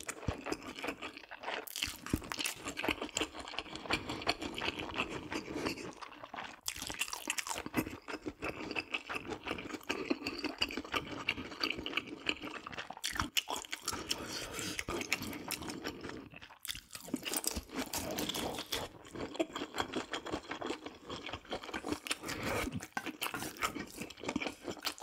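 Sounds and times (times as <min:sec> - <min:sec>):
person chewing and crunching food: 0:00.0 - 0:25.0.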